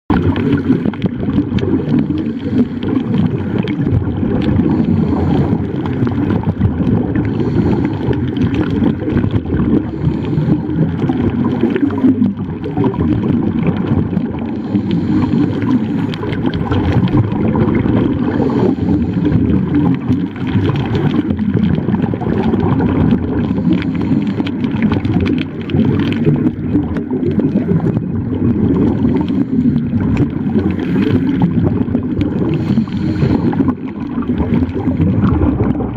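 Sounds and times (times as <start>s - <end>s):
crackling air bubbles: 0.0s - 35.9s
underwater rush of water: 0.1s - 35.9s.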